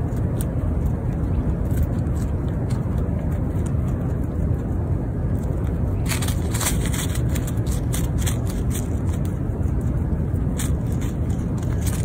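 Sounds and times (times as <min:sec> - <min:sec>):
low rumble: 0:00.0 - 0:12.0
squirrel scratching in leaf litter: 0:00.0 - 0:12.0.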